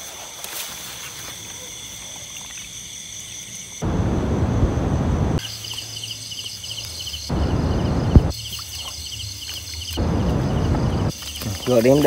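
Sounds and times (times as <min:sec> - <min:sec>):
crickets chirping: 0:00.0 - 0:12.0
high insect trill: 0:00.0 - 0:12.0.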